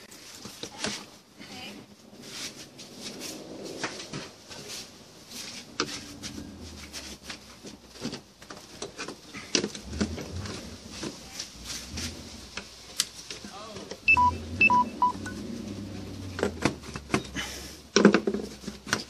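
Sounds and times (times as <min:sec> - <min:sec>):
plastic and rubber clicks and scrapes: 0:02.5 - 0:19.0.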